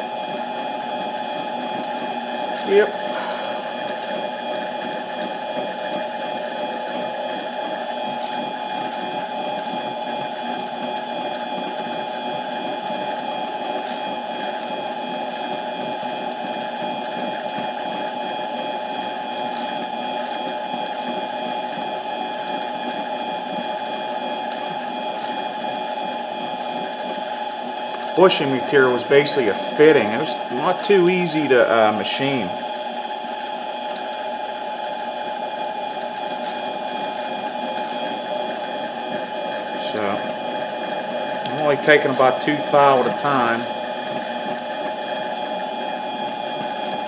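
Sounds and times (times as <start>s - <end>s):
lathe motor whining: 0.1s - 47.0s.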